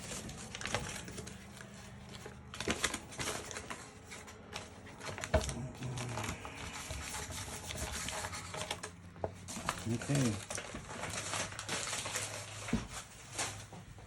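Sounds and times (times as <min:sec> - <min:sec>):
art supplies clicking and rustling: 0:00.0 - 0:13.9.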